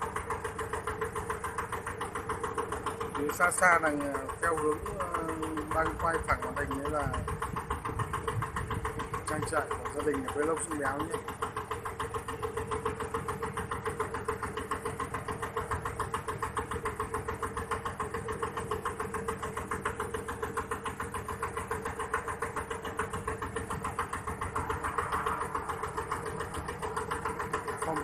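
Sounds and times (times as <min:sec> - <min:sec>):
boat engine chugging: 0:00.0 - 0:28.0.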